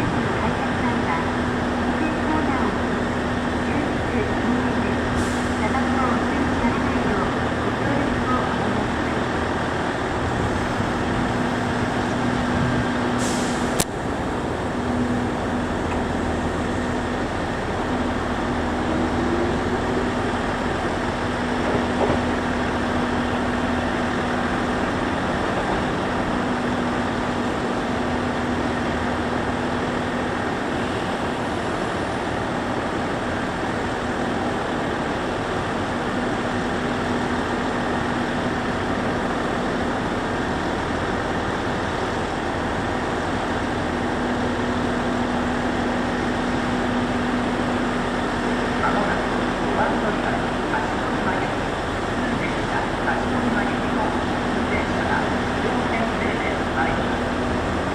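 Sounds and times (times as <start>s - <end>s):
electric train humming: 0.0s - 57.9s.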